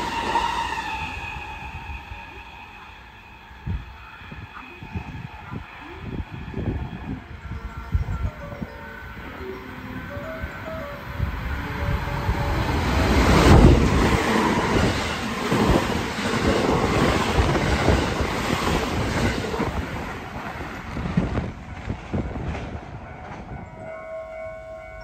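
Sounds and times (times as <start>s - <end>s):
train rushing past: 0.0s - 25.0s.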